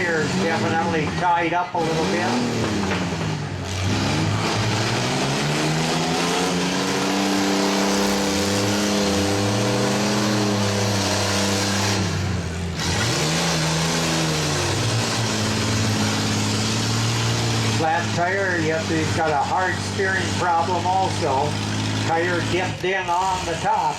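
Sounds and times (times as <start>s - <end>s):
car engine revving hard: 0.0s - 23.9s.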